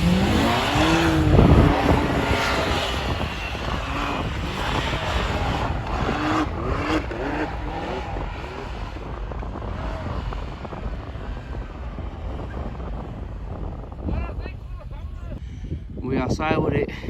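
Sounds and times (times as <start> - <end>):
engine revving: 0.0 - 14.5
wind rushing: 0.0 - 16.5.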